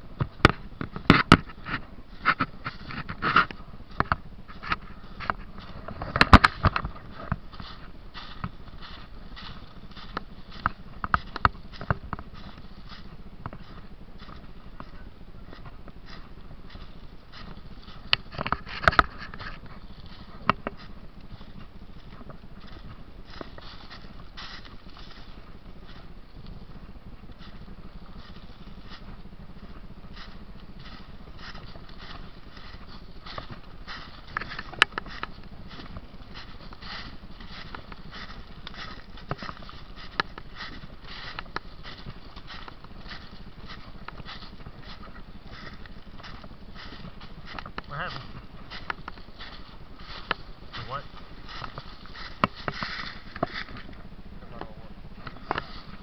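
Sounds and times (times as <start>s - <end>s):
footsteps crunching dry leaves: 0.0s - 56.0s.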